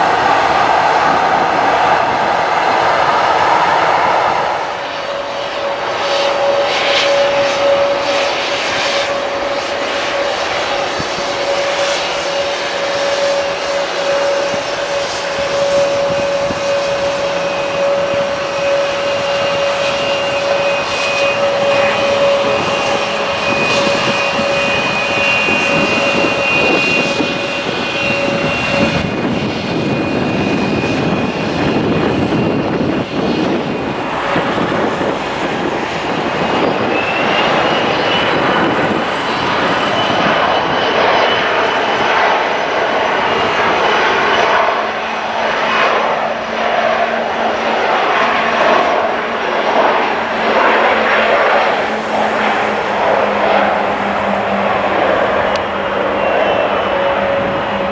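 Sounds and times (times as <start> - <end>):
jet engine whine: 0.0 - 57.9
jet engines rushing: 0.0 - 57.9.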